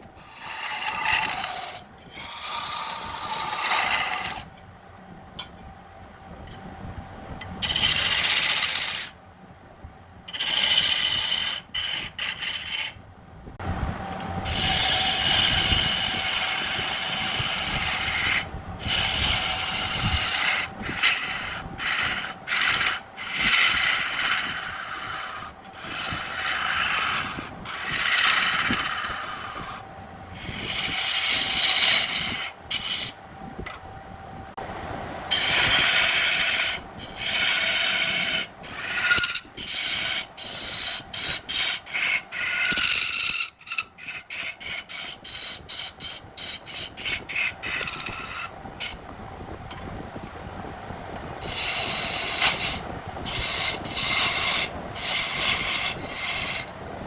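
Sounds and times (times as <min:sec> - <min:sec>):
lathe tool rasping on wood: 0:00.2 - 0:04.5, 0:07.6 - 0:09.1, 0:10.3 - 0:13.0, 0:14.5 - 0:33.2, 0:35.3 - 0:49.0, 0:51.4 - 0:56.8.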